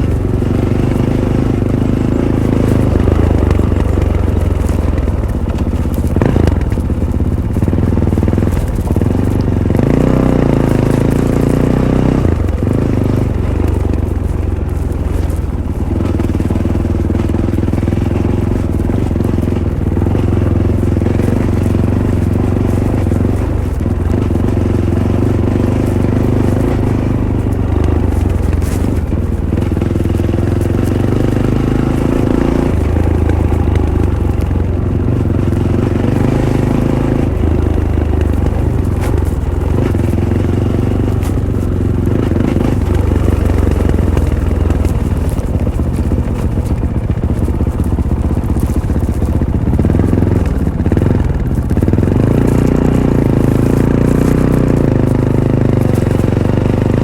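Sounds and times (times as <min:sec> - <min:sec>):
motorcycle engine changing pitch: 0:00.0 - 0:57.0.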